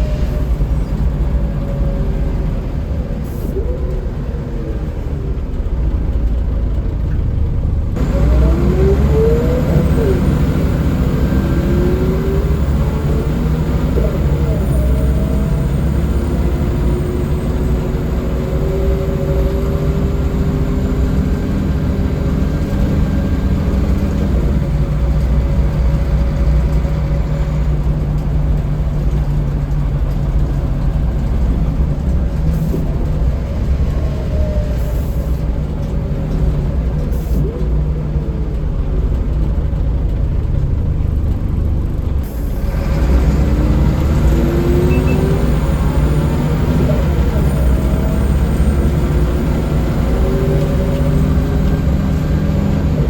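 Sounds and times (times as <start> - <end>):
bus diesel engine running: 0.0 - 53.0
road and cabin noise: 0.0 - 53.0.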